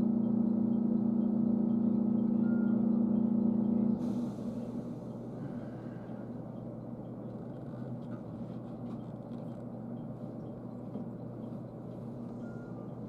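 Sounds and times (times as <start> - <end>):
low hum inside train car: 0.0 - 13.0.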